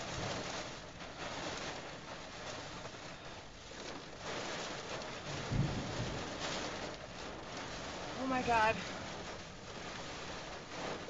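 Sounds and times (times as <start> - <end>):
rain on car windshield and roof: 0.0 - 11.0.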